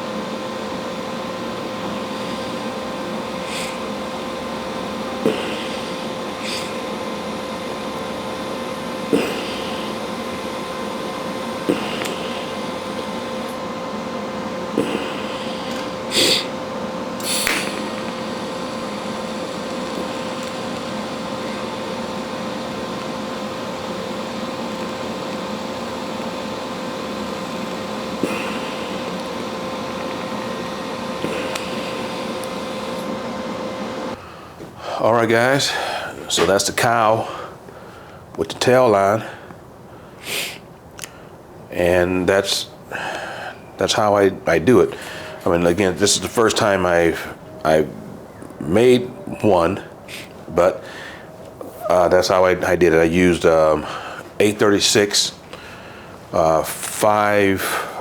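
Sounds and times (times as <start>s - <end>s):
welding arc sizzling: 0.0s - 58.0s.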